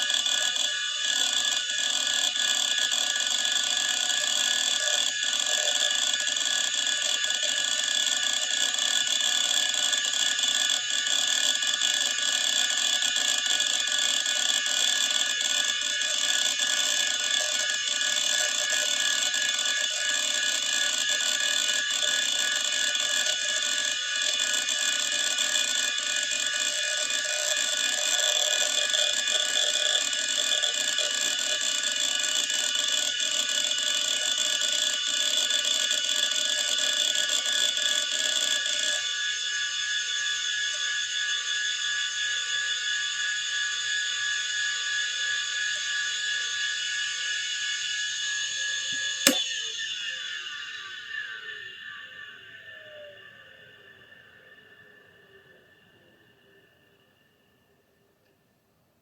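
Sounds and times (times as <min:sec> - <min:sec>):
hard disk drive whine: 0:00.0 - 0:59.0.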